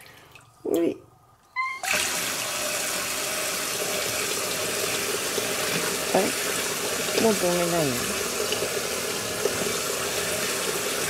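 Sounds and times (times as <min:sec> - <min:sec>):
water running into sink: 0:01.6 - 0:11.0.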